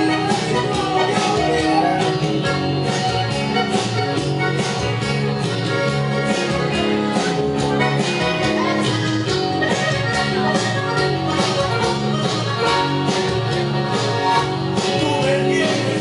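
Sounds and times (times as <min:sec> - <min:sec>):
live band instrumental music: 0:00.0 - 0:16.0.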